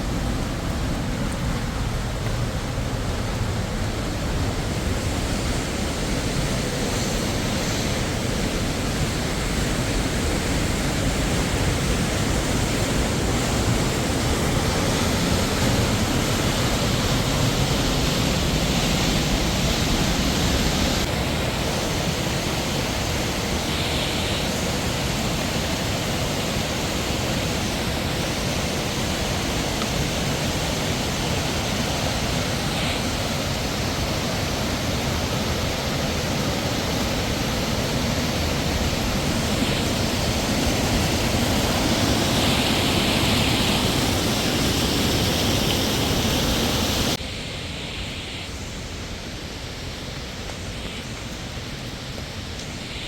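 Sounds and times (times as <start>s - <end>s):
waterfall rushing: 0.0s - 47.2s.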